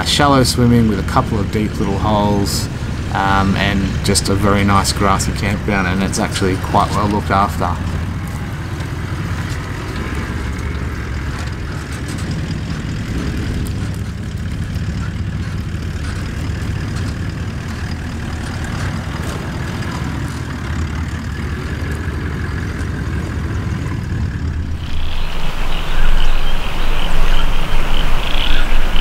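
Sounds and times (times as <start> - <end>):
vehicle engines droning: 0.0 - 29.0.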